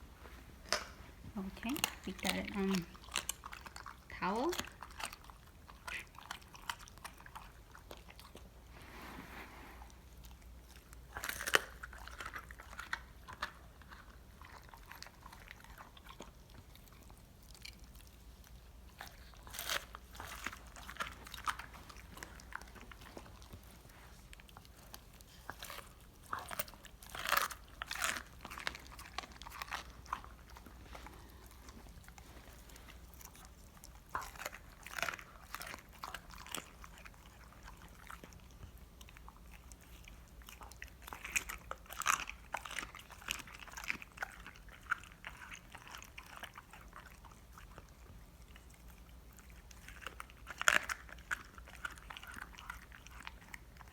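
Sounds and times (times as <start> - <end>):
dog crunching and chewing bones: 0.2 - 8.8, 9.8 - 53.9.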